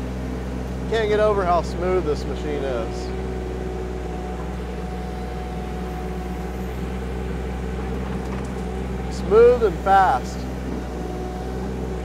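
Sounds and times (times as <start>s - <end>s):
excavator engine drone: 0.0s - 12.0s.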